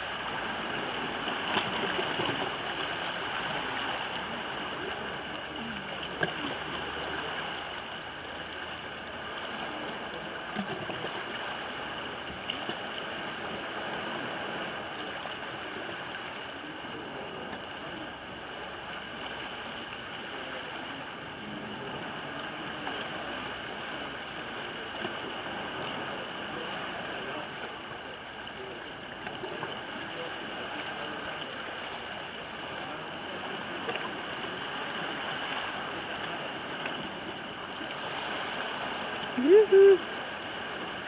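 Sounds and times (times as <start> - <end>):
sea water lapping: 0.0 - 41.0.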